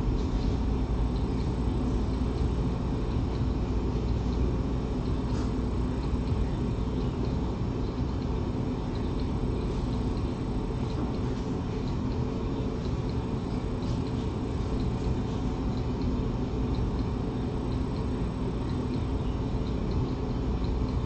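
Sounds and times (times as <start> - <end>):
low hum and rumble: 0.0 - 21.0.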